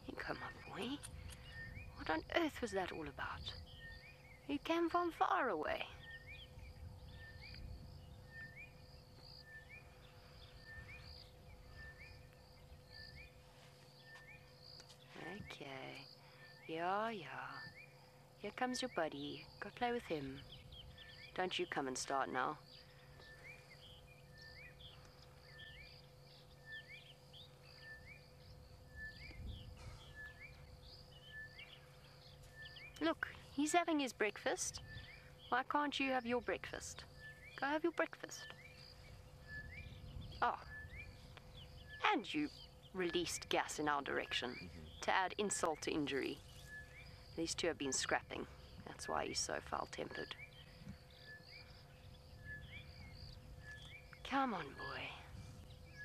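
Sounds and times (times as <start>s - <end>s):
faint low rumble: 0.0s - 56.0s
low steady hum: 0.0s - 56.0s
quiet bush ambience: 0.0s - 56.0s.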